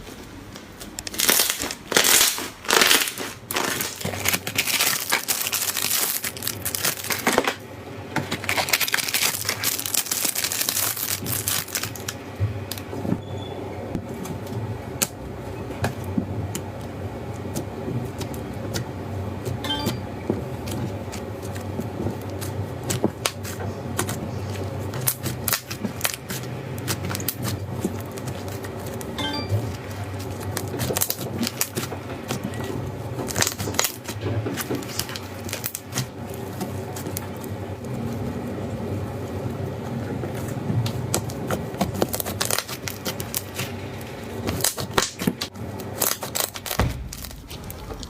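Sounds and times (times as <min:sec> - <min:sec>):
low steady hum: 0:00.0 - 0:48.0
slime crunching and crackling: 0:00.6 - 0:13.0, 0:15.8 - 0:48.0.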